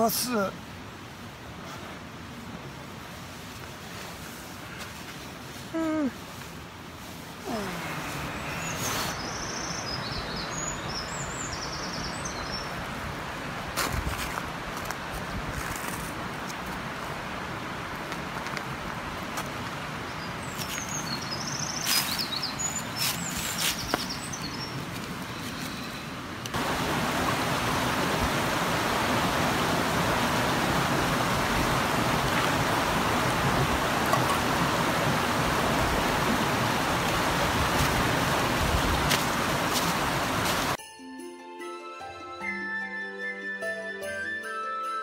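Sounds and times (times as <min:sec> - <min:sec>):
stream rushing over rocks: 0:00.0 - 0:40.8.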